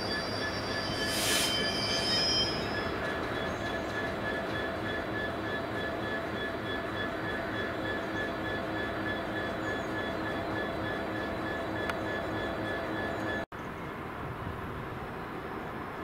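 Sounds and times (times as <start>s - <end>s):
diesel locomotive engine running: 0.0s - 13.5s
flanges squealing on rails: 0.0s - 13.9s
wheels rumbling on rail: 0.0s - 16.0s.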